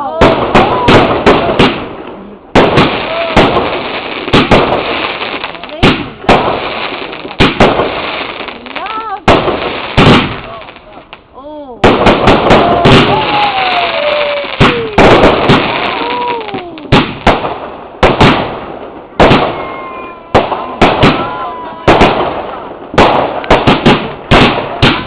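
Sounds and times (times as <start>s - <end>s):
whistling fireworks: 0.0s - 1.9s, 2.5s - 11.0s, 11.9s - 25.0s
firework bangs: 0.0s - 25.0s
fireworks crackling: 0.0s - 25.0s.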